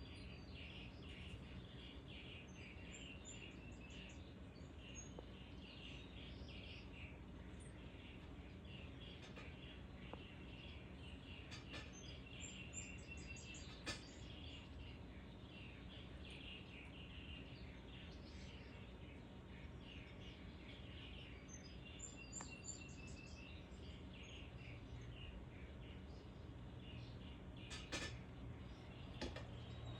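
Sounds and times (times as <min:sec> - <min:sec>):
low background hum: 0:00.0 - 0:29.9
songbirds chirping: 0:00.0 - 0:29.9.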